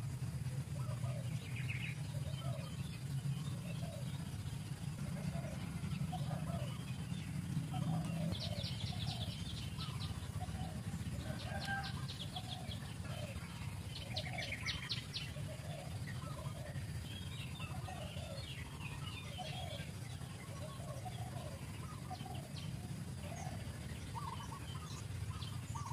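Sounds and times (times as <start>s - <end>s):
bird chirps: 0.0s - 25.9s
lower bird call: 0.0s - 25.9s
bird clicking trills: 0.8s - 25.9s.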